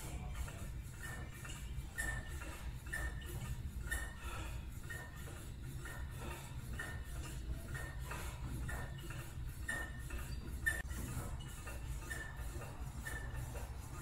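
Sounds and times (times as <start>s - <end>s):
cable machine metallic clinks: 0.0s - 4.2s, 4.8s - 13.6s
steady low hum: 0.0s - 14.0s.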